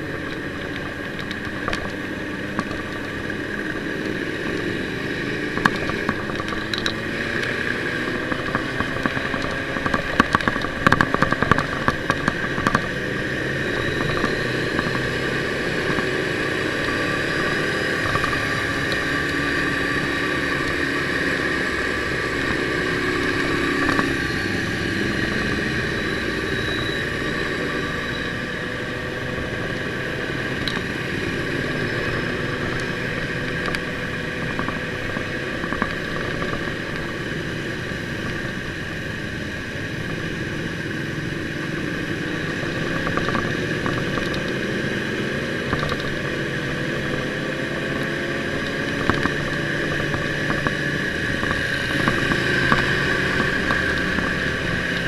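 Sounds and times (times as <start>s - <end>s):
motorcycle engine: 0.0s - 55.0s
road rumble: 0.0s - 55.0s.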